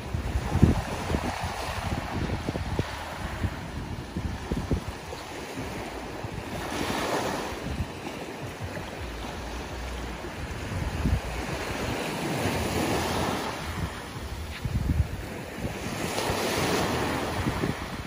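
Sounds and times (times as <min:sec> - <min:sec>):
ocean waves washing up shore: 0:00.0 - 0:18.0
wind buffeting microphone: 0:00.0 - 0:18.0.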